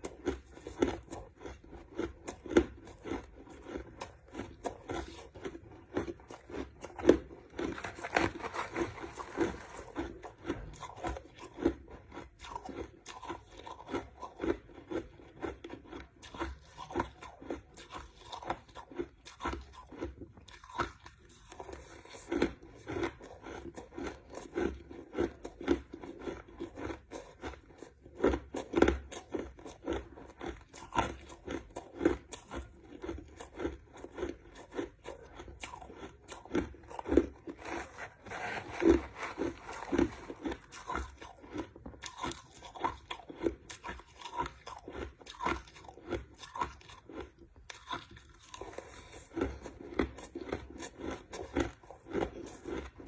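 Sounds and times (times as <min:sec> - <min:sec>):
crushed ice being chewed: 0:00.0 - 0:53.0.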